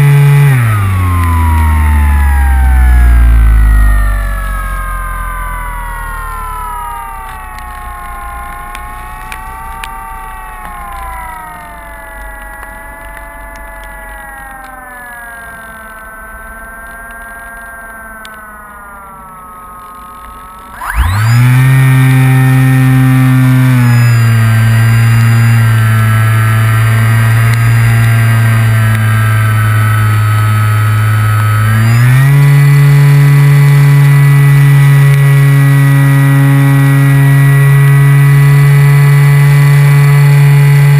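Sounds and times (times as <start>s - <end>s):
electric motor and propeller: 0.0s - 40.9s
wavering whistle of wind: 0.6s - 16.4s, 20.7s - 40.6s.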